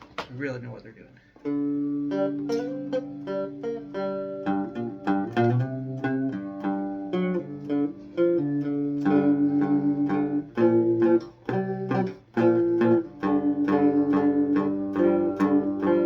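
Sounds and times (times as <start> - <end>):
amplified cigar box guitar picking: 1.4 - 16.0.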